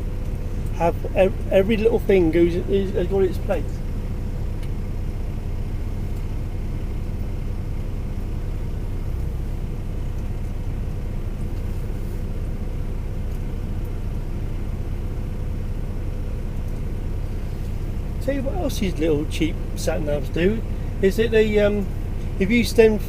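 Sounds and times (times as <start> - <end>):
low hum inside lorry cab: 0.0 - 23.0.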